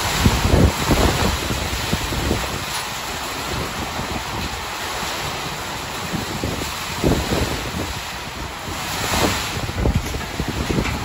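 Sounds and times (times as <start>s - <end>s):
heavy rain hiss: 0.0s - 11.0s
strong wind: 0.0s - 11.0s
wind buffeting microphone: 0.0s - 11.0s.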